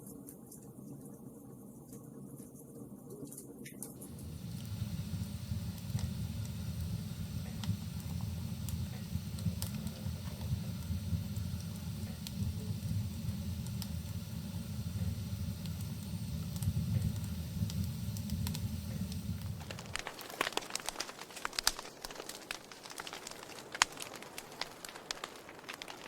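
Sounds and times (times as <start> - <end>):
wood fire crackling and popping: 3.8 - 26.0
low rumble of flames: 4.0 - 26.0.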